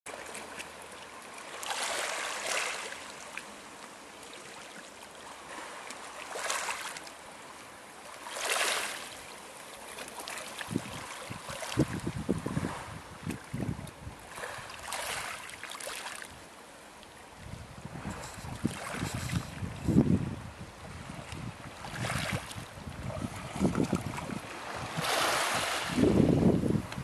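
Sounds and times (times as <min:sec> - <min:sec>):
waves washing over pebbles: 0:00.1 - 0:03.7, 0:05.4 - 0:07.1, 0:08.1 - 0:16.4, 0:17.7 - 0:20.0, 0:20.8 - 0:27.0.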